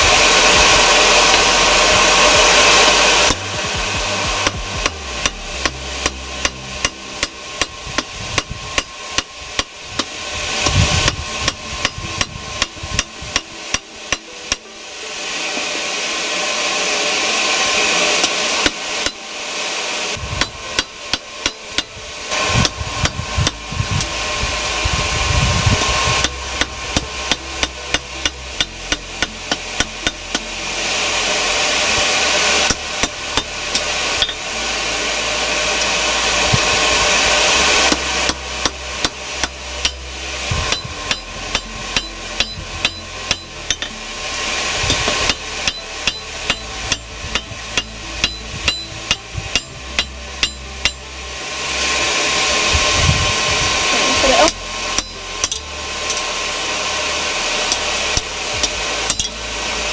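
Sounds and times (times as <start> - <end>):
steady rushing noise: 0.0 - 59.9
hammer striking steel on anvil: 0.1 - 14.8, 17.6 - 19.3, 20.1 - 25.1, 25.8 - 52.5, 54.2 - 56.4, 57.3 - 59.9.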